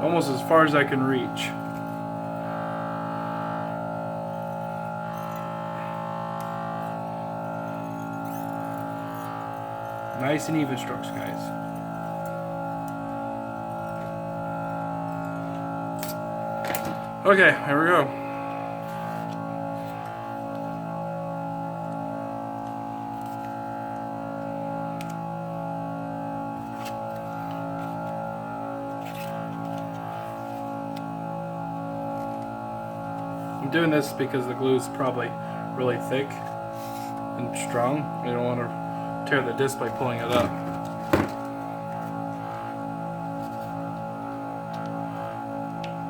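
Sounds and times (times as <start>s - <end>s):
buzzing hum with low pulse: 0.0s - 46.0s.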